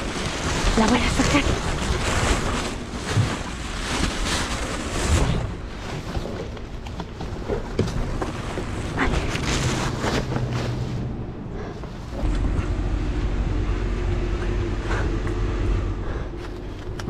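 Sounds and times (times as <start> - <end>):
plastic trash bags rustling: 0.0 - 15.1.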